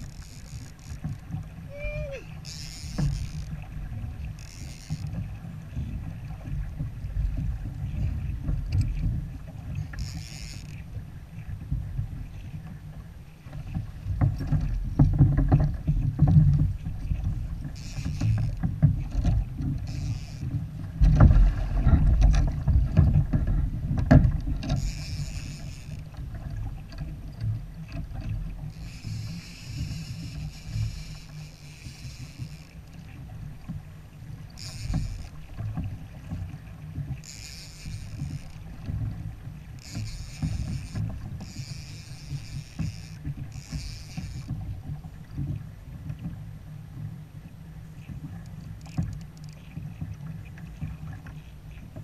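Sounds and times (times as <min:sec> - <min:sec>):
knocks and clatter on kayak: 0:00.0 - 0:52.0
water and wind rumble on hull: 0:00.0 - 0:52.0.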